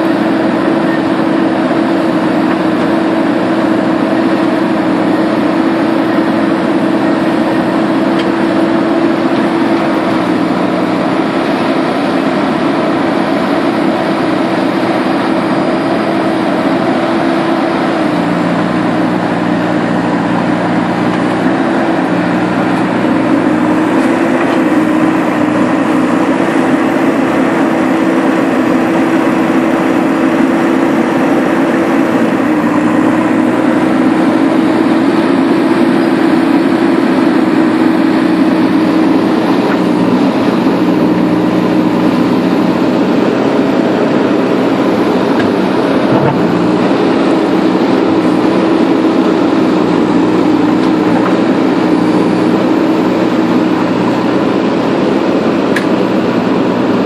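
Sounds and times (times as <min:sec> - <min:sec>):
backhoe arm digging earth: 0:00.0 - 0:54.4
diesel engine running: 0:00.0 - 0:57.0.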